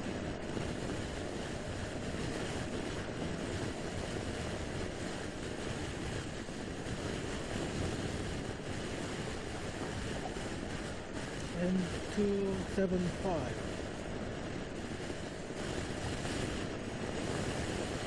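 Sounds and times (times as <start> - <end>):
wind and road noise: 0.0 - 18.0
wind buffeting microphone: 0.0 - 18.0.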